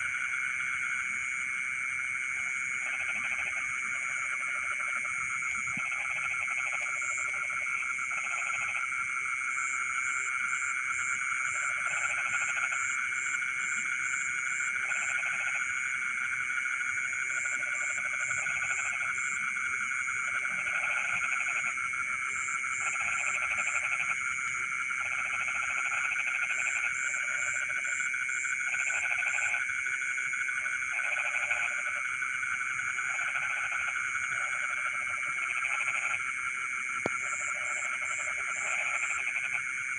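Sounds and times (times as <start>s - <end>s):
frogs pulsed croaks: 0.0s - 39.9s
high-pitched frog chorus: 0.0s - 39.9s.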